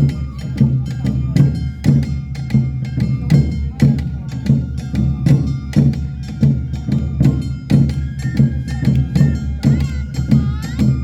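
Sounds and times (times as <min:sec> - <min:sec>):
taiko drums: 0:00.0 - 0:11.0.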